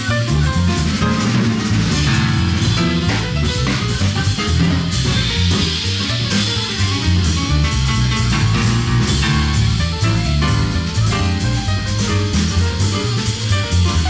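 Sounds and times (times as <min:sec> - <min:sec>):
bass line: 0:00.0 - 0:14.0
drum kit and cymbals: 0:00.0 - 0:14.0
upright piano: 0:00.0 - 0:14.0.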